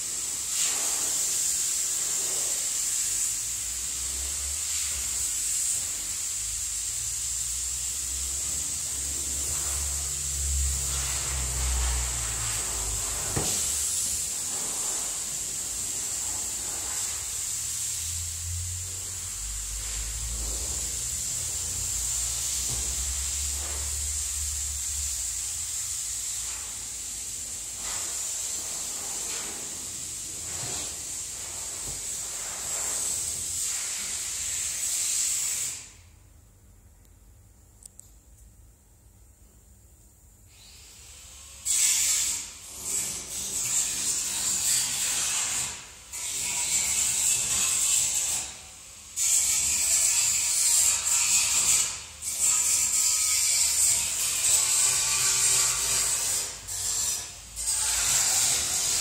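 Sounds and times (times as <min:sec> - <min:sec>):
air hissing through booth: 0:00.0 - 0:36.2, 0:40.5 - 0:59.0.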